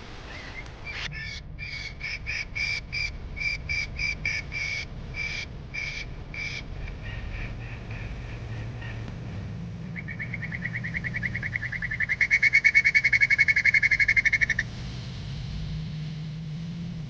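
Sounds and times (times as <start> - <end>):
bird calling harsh notes: 0.0 - 14.7.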